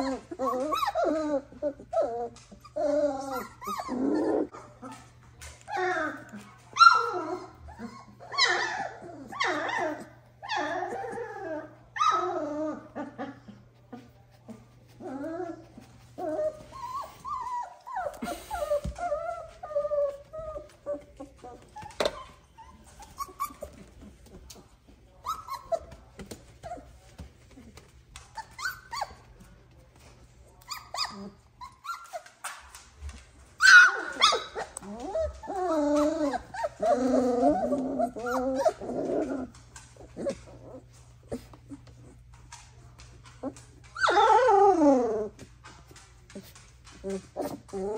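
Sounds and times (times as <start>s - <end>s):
puppy whining and crying: 0.0s - 13.6s, 14.9s - 24.6s, 25.2s - 26.9s, 28.2s - 29.4s, 30.6s - 32.8s, 33.6s - 42.6s, 43.2s - 47.9s.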